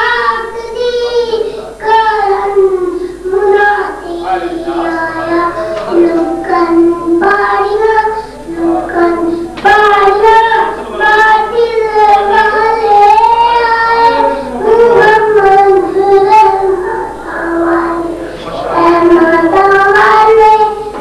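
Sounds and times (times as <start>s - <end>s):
boy chanting devotional song: 0.0s - 21.0s.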